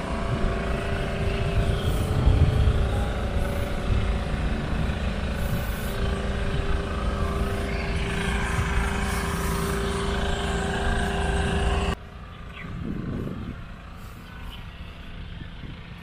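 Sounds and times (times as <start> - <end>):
engine running: 0.0 - 16.0
higher hum: 0.0 - 16.0.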